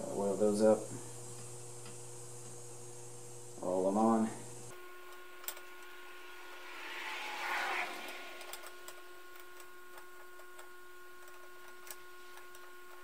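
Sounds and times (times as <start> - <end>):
steady background whine: 0.0 - 13.0.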